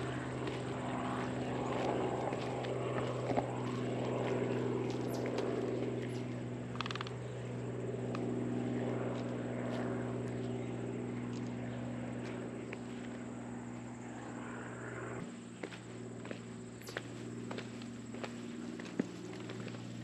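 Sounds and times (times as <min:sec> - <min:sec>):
propeller aircraft droning overhead: 0:00.0 - 0:20.0.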